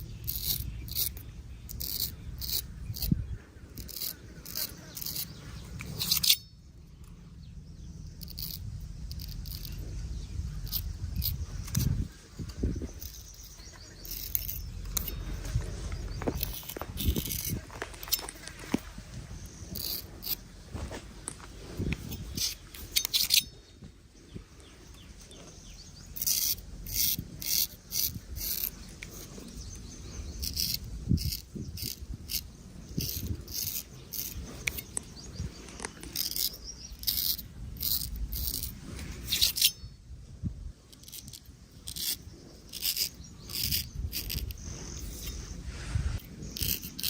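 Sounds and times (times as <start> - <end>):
straight razor scraping hair: 0.0 - 6.5, 8.1 - 18.8, 19.4 - 20.4, 21.9 - 23.6, 26.0 - 39.8, 40.9 - 47.0.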